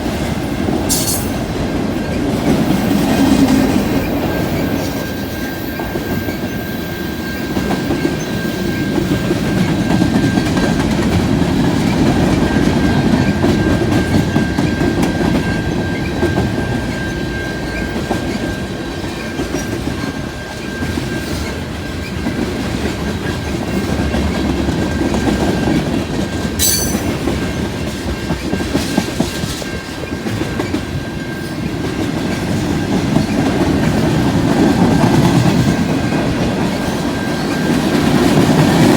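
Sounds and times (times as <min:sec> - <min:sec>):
high squeal of train wheels: 0:00.0 - 0:38.9
train wheels clacking over rail joints: 0:00.8 - 0:06.6, 0:07.2 - 0:38.9.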